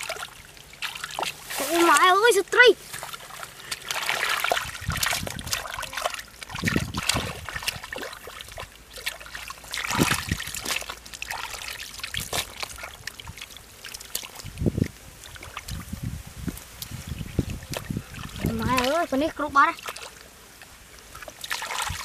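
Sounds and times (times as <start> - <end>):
hands splashing in muddy water: 0.0 - 2.2, 2.8 - 20.3, 21.0 - 22.0
water dripping and trickling: 0.0 - 22.0.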